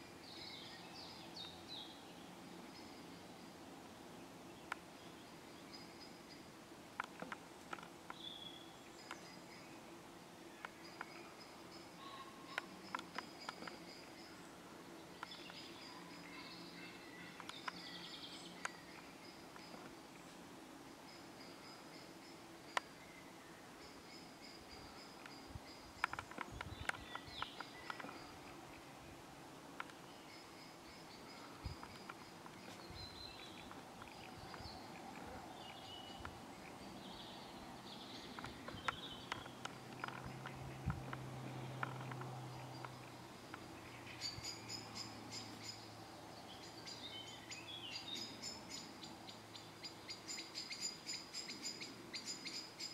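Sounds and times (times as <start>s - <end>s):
distant birdsong: 0.0s - 52.9s.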